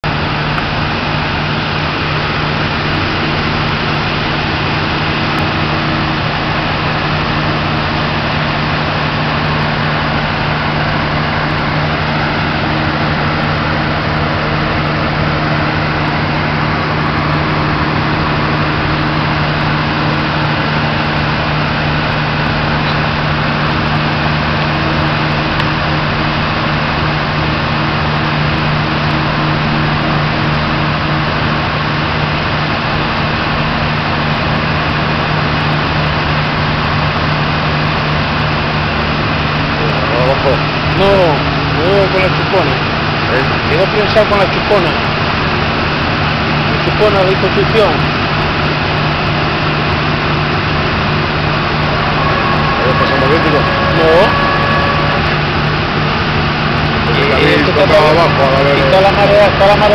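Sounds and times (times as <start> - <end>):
boat diesel engine running: 0.0 - 59.9.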